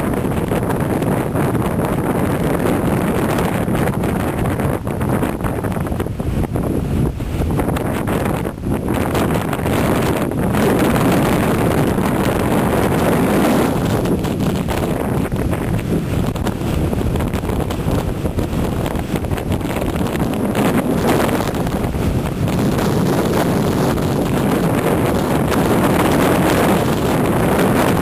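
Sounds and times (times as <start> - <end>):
waves and surf washing in: 0.0 - 28.0
wind buffeting microphone: 0.0 - 28.0.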